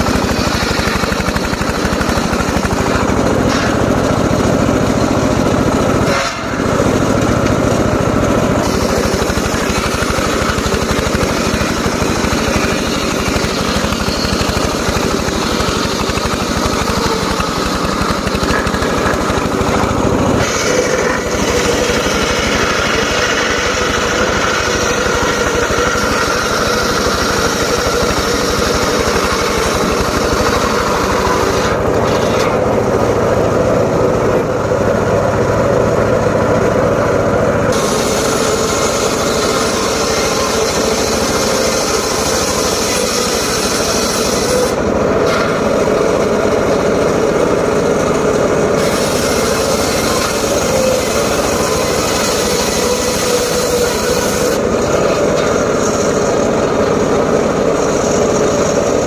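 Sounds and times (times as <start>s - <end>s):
engine-driven circular saw running: 0.0s - 59.0s.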